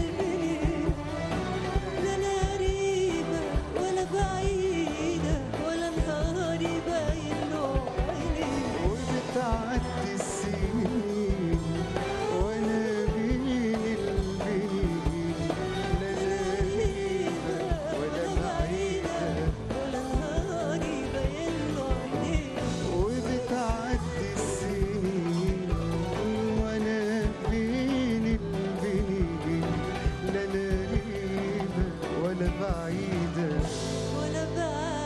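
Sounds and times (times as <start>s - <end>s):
man singing: 0.0s - 35.0s
orchestra and band playing: 0.0s - 35.0s
woman singing: 0.0s - 35.0s.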